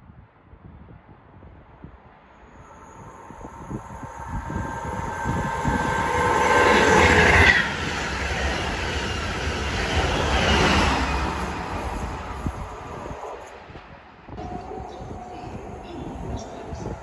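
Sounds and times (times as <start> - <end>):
high-speed train passing: 2.3 - 17.0.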